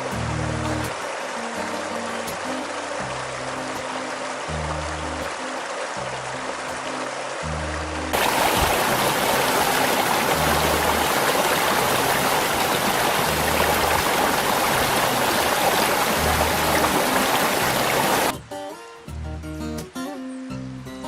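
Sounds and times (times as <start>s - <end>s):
stream water rushing: 0.0s - 18.4s.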